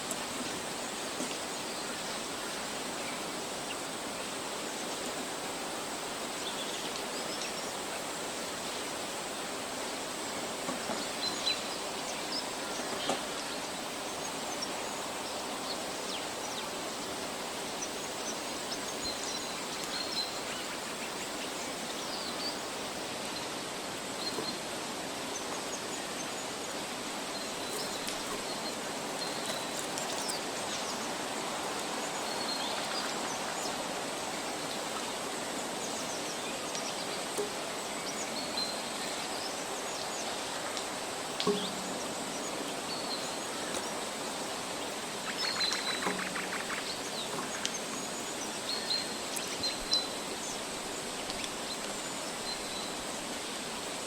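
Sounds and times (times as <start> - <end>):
steady rushing hiss: 0.0 - 54.0.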